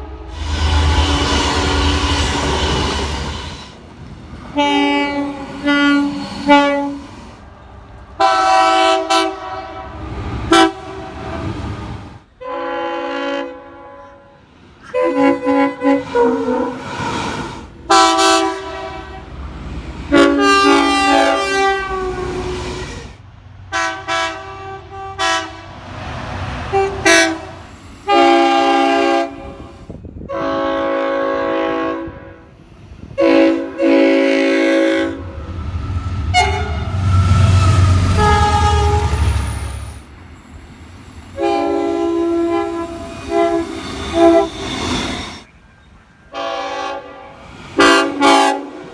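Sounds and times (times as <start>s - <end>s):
locomotive air horn blasts: 0.0s - 3.8s, 4.5s - 7.2s, 8.2s - 11.7s, 12.4s - 16.8s, 17.9s - 19.4s, 20.1s - 22.8s, 23.7s - 25.8s, 26.6s - 32.5s, 33.1s - 40.1s, 41.4s - 45.4s, 46.3s - 48.9s
passing train rumble: 0.0s - 48.9s.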